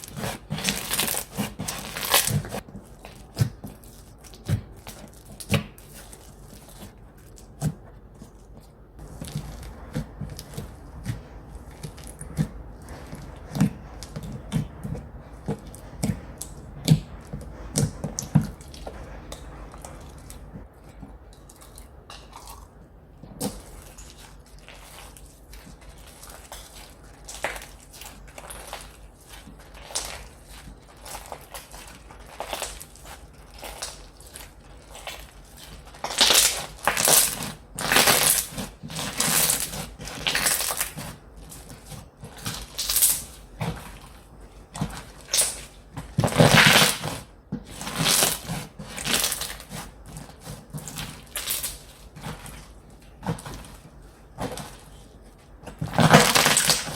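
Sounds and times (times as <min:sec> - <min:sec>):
slime squishing by hand: 0:00.0 - 0:56.9.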